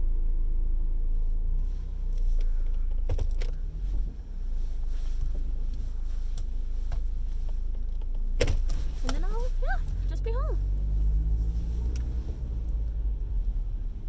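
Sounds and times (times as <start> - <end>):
car engine rumble in cabin: 0.0 - 14.0.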